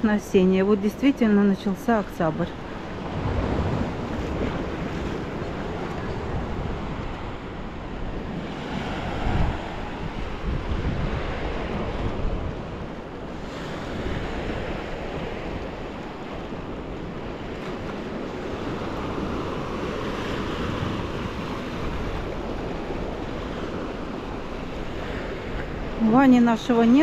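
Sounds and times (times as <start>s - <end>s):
sea waves washing onto beach: 2.3s - 27.0s
wind buffeting microphone: 2.3s - 27.0s.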